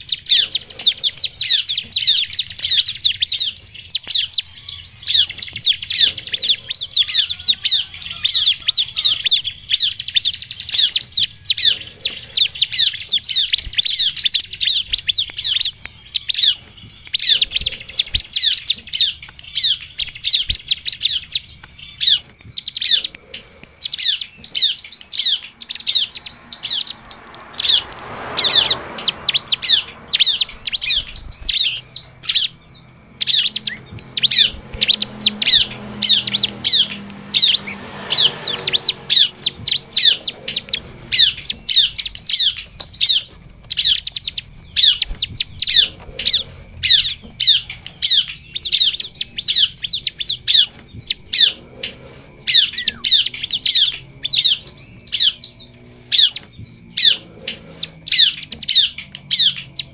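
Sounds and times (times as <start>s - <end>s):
bird singing high sharp chirps: 0.0s - 59.9s.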